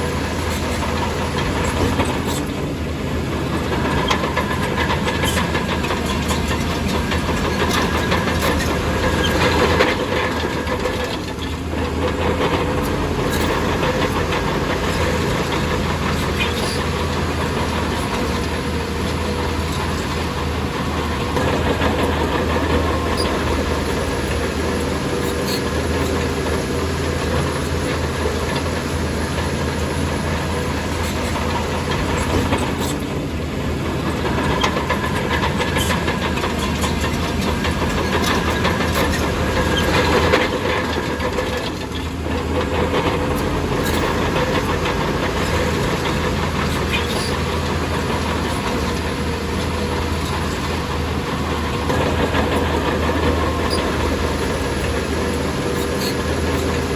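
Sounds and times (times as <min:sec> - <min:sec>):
heavy machinery diesel engine: 0:00.0 - 0:56.9.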